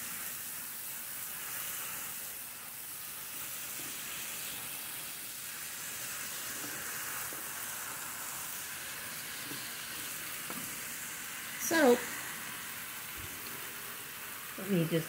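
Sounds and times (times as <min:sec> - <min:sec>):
vegetables sizzling in a skillet: 0:00.0 - 0:15.0.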